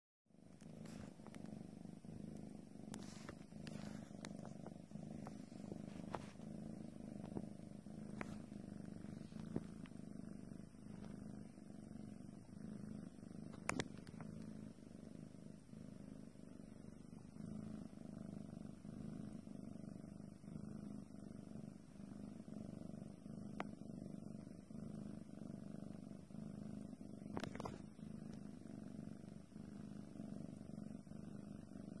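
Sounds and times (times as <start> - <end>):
cat purring: 0.3 - 32.0.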